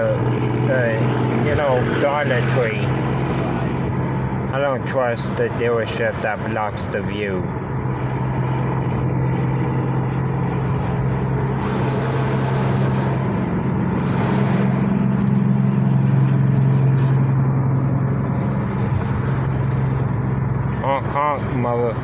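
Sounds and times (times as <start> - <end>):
low engine hum: 0.0 - 22.0
road noise: 0.0 - 22.0.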